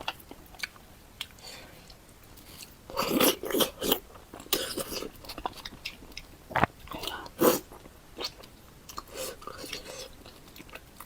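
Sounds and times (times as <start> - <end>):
person chewing wetly: 0.0 - 11.0.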